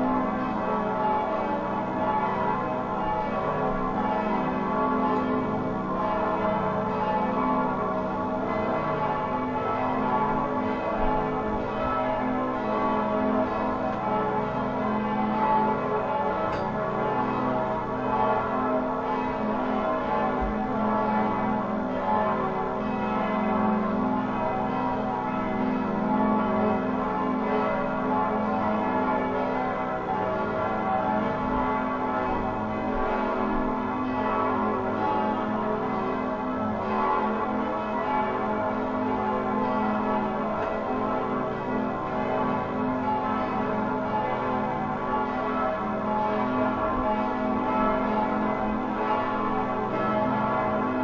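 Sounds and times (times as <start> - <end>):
church bells pealing: 0.0 - 51.0.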